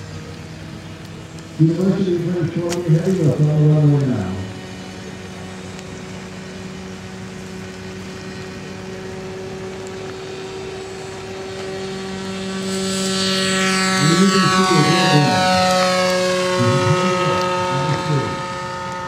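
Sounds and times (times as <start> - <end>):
model airplane engine and propeller: 0.0 - 19.0.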